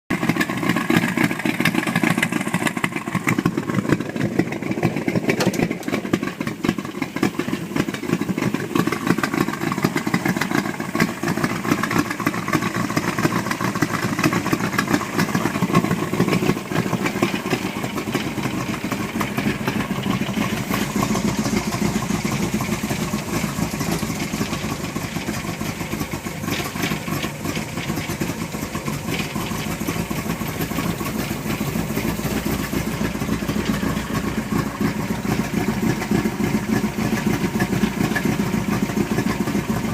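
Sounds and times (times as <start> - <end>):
truck engine idling: 0.1 - 39.9.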